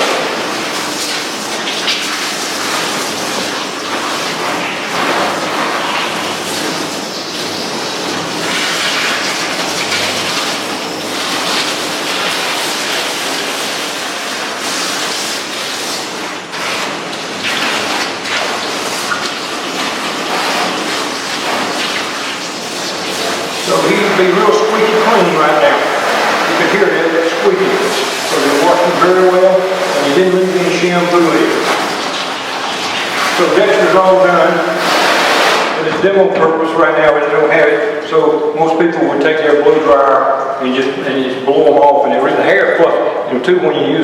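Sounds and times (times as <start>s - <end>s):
water spraying: 0.0s - 43.3s.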